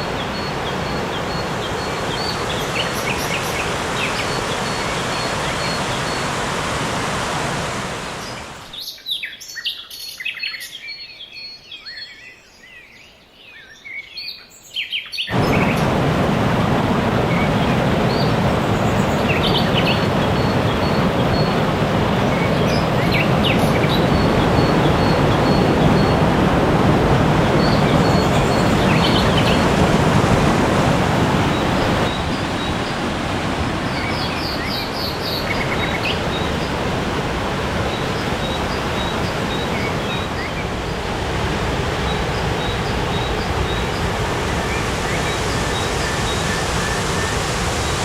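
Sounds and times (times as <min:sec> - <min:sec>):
waterfall rushing: 0:00.0 - 0:08.8, 0:15.3 - 0:48.0.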